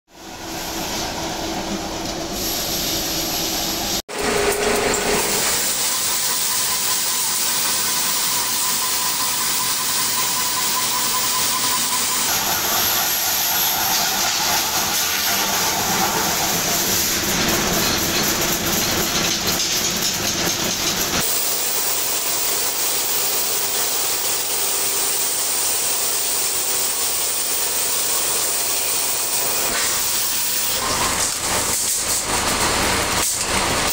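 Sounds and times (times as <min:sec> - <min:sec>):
hissing machinery: 0:00.3 - 0:33.9.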